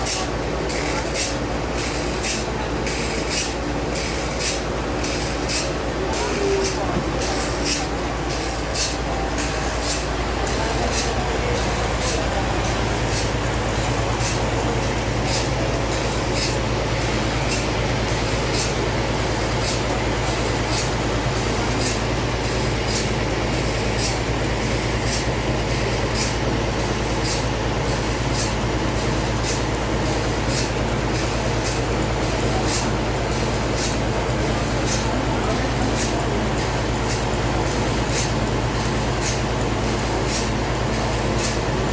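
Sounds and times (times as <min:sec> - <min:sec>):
sawmill machinery hum: 0:00.0 - 0:41.9.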